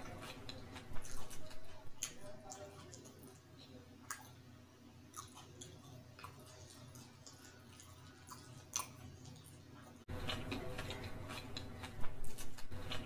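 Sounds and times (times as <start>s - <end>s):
chewing: 0.0s - 4.5s, 5.1s - 13.0s
fingers squishing through noodles: 0.0s - 4.5s, 5.1s - 13.0s.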